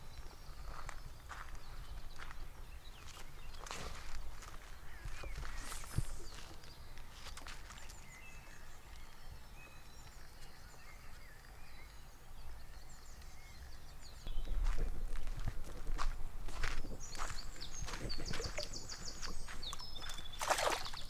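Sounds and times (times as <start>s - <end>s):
birds singing and chirping: 0.0s - 21.0s.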